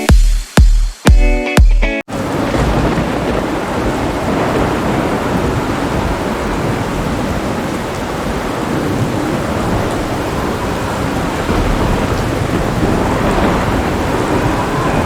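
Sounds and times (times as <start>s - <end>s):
deep rumble of thunder: 2.1s - 15.0s
heavy rain pouring: 2.1s - 15.0s.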